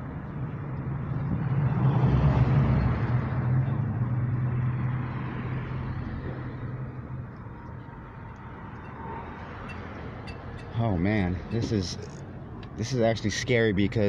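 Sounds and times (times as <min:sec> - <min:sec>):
car engine humming: 0:00.0 - 0:14.0
vehicle passing: 0:00.0 - 0:14.0.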